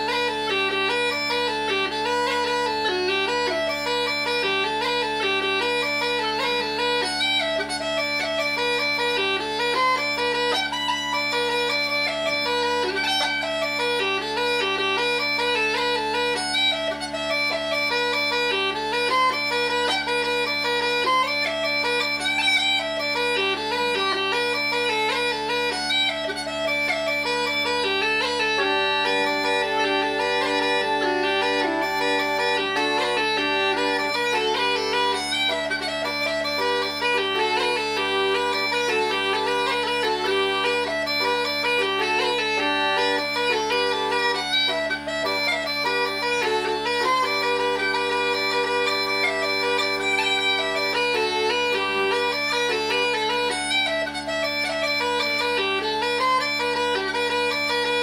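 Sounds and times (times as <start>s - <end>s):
bagpipe drone: 0.0s - 58.0s
bagpipe melody: 0.0s - 58.0s.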